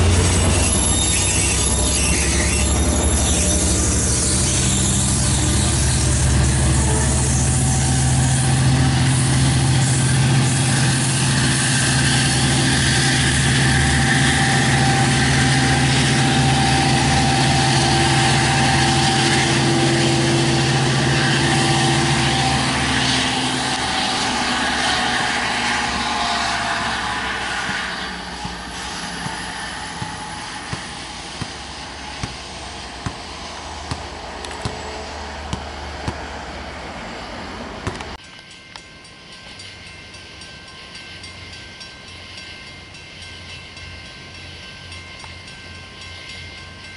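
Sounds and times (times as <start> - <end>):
diesel locomotive engine running: 0.0 - 46.9.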